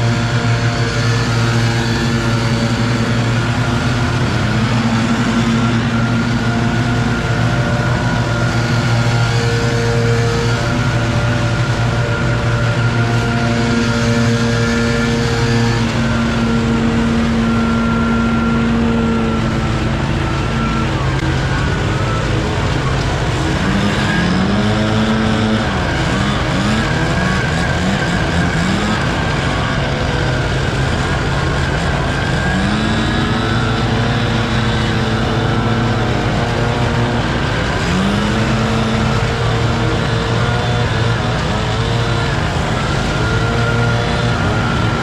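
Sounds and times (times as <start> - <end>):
leaf blowers revving: 0.0 - 45.0
leaf vacuum engine drone: 0.0 - 45.0.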